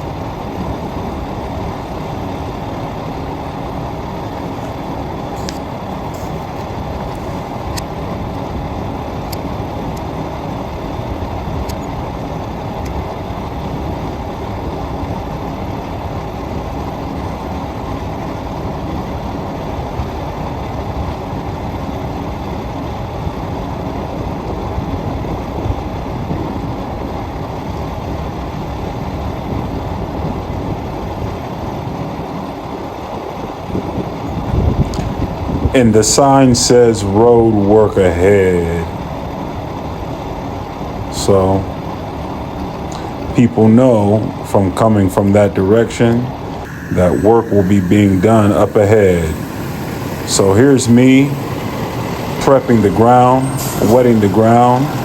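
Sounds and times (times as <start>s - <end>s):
truck engine low rumble: 0.0s - 55.0s.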